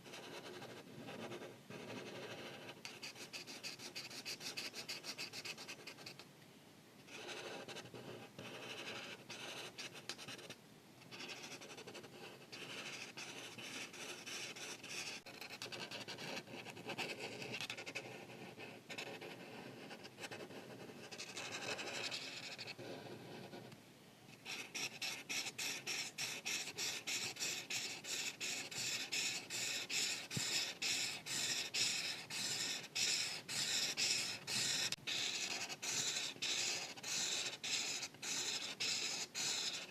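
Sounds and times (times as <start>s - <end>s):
marker scratching on paper: 0.0s - 6.2s, 7.1s - 23.7s, 24.4s - 39.9s.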